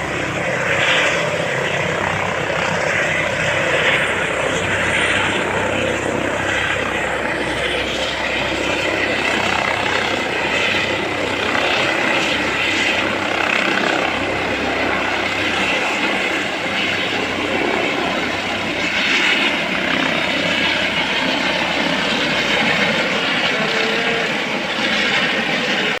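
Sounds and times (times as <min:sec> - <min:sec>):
helicopter rotor and engine: 0:00.0 - 0:26.0.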